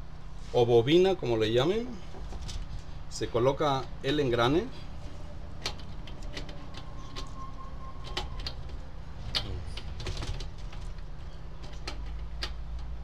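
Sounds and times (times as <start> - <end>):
steady low hum: 0.0 - 13.0
fan parts clicking and knocking: 2.1 - 13.0.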